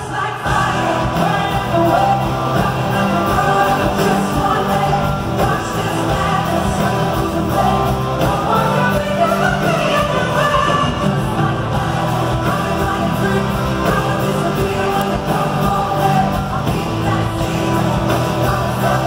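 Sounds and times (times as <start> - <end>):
live band guitars and drums: 0.0 - 19.0
woman singing lead: 0.0 - 19.0.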